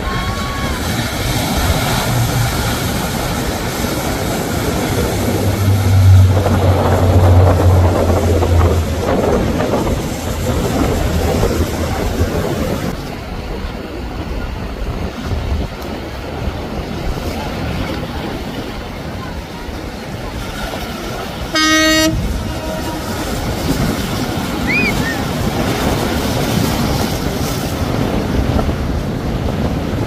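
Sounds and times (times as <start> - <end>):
yacht engines droning: 0.0 - 15.0, 16.0 - 30.0
rushing boat wake: 0.0 - 30.0.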